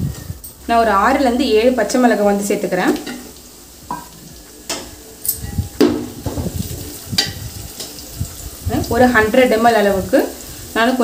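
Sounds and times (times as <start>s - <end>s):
spices sizzling in a pot: 0.0s - 11.0s.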